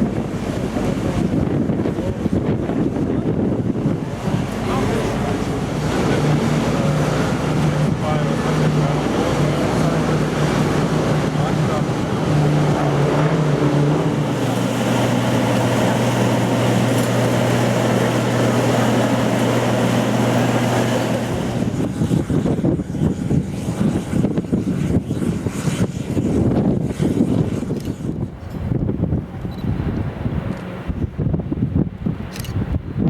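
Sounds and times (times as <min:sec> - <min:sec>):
engine drone: 0:00.0 - 0:31.3
wind buffeting microphone: 0:00.0 - 0:33.0.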